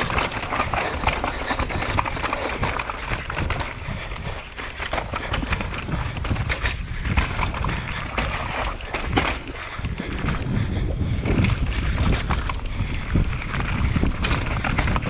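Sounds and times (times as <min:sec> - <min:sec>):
bike rattling: 0:00.0 - 0:15.0
wind buffeting microphone: 0:00.0 - 0:15.0.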